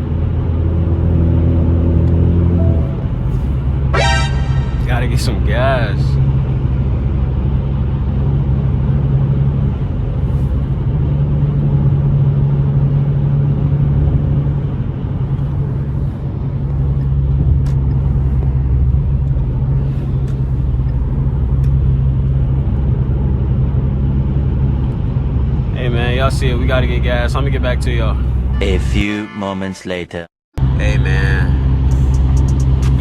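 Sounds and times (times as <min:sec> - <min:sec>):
car engine droning: 0:00.0 - 0:28.8, 0:30.6 - 0:33.0.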